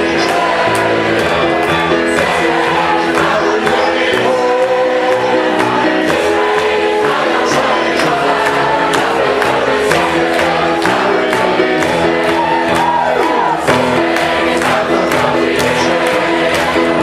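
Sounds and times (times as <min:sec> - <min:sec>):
band with steady beat: 0:00.0 - 0:17.0
crowd singing a hymn: 0:00.0 - 0:17.0.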